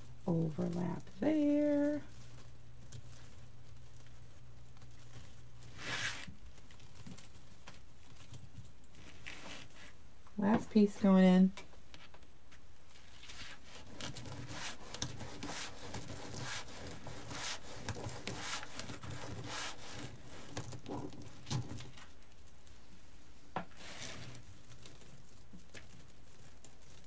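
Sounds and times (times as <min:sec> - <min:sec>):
mesh rustling and scraping: 0:00.0 - 0:10.1, 0:12.8 - 0:27.0.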